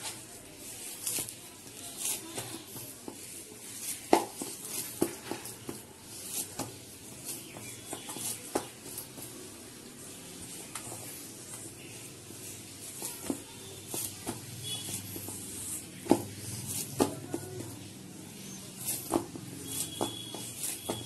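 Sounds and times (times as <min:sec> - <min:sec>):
hands kneading dough: 0:00.0 - 0:21.0.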